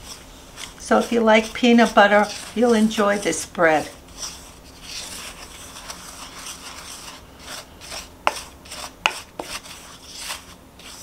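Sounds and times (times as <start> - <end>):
spoon stirring flour mixture: 0.0 - 11.0.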